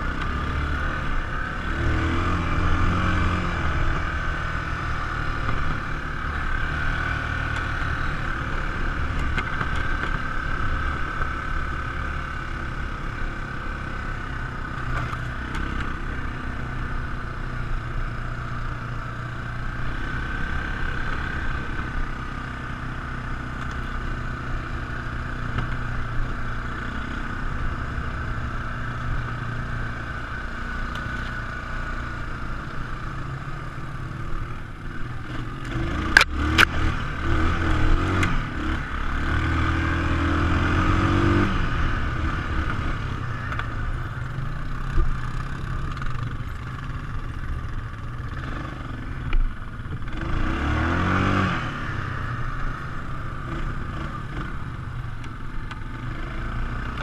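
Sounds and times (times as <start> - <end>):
atv engine rumbling: 0.0 - 57.0.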